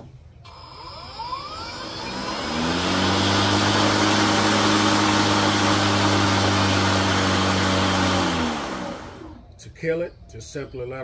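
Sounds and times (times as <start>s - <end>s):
battery lawn mower running: 0.5s - 9.4s.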